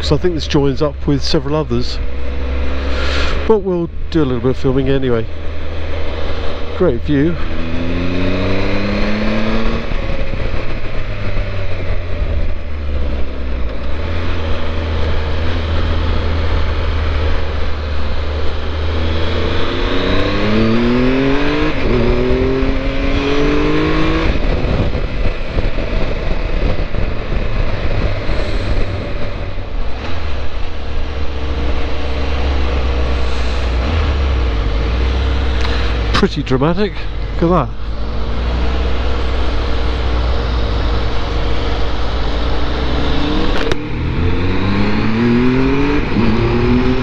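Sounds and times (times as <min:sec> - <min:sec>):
motorcycle engine: 0:00.0 - 0:47.0
wind rumble: 0:00.0 - 0:47.0.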